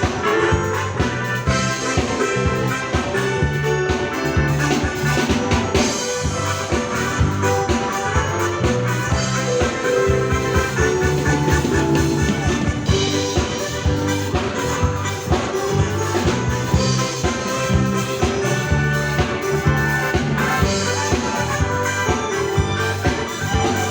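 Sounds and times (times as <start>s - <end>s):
jive band music: 0.0s - 23.9s.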